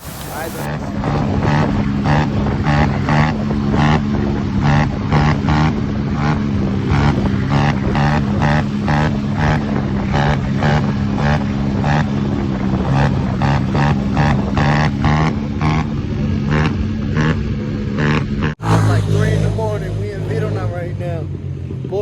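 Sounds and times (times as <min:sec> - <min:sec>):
small motorcycle engines running: 0:00.0 - 0:22.0.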